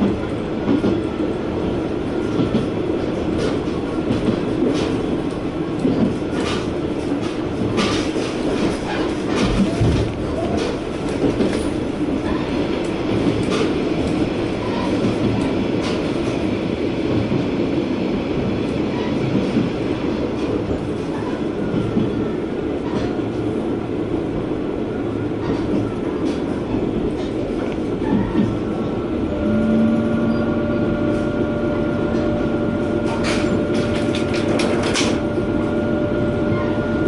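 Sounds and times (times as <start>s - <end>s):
rail joint clicks: 0.0s - 36.9s
railcar engine and wheels rumbling: 0.0s - 37.0s.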